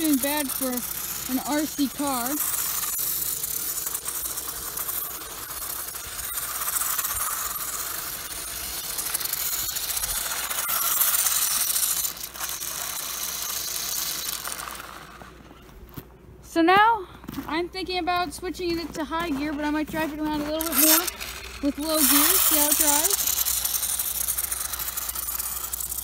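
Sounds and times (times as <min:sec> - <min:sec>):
toy car motor whirring: 0:00.0 - 0:15.8, 0:17.9 - 0:26.0.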